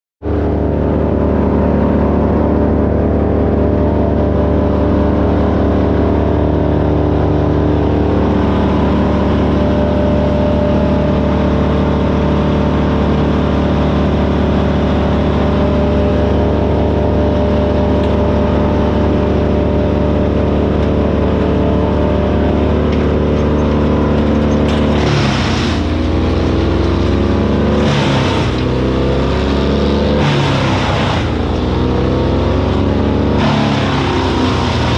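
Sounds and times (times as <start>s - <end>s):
wood chipper engine running: 0.2s - 34.9s.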